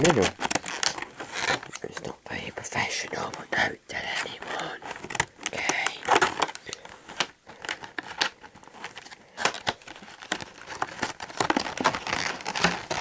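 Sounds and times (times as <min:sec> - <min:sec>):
packaging crinkling and tearing: 0:00.0 - 0:02.5, 0:03.2 - 0:13.0.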